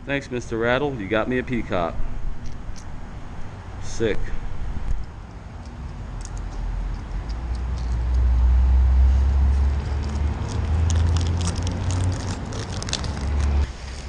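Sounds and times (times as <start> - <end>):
traffic rumbling on bridge: 0.6 - 14.0.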